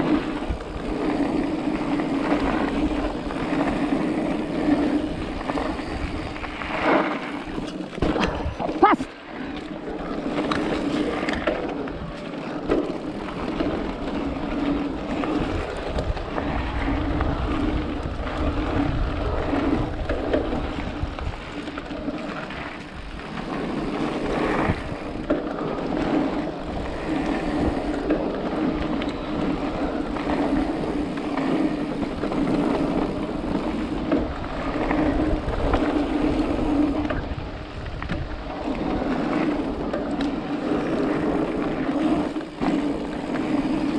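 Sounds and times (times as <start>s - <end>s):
wind buffeting microphone: 0.0s - 12.1s, 13.0s - 43.9s
bike rattling and clicking: 0.0s - 43.9s
bike tyres rolling on dirt: 0.0s - 43.9s.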